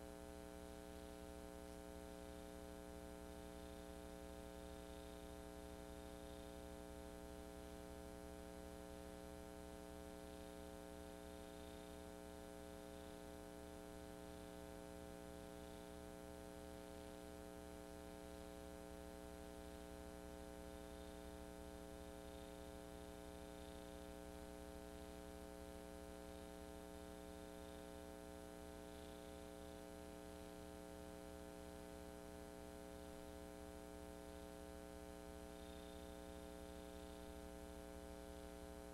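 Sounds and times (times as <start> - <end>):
electrical mains hum with hiss: 0.0 - 38.9.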